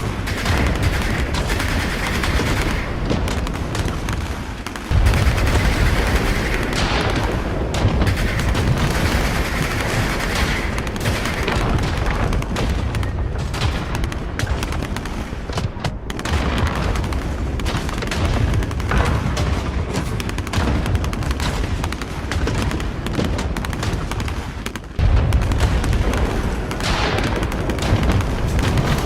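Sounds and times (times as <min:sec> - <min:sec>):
rapid gunfire: 0:00.0 - 0:29.0.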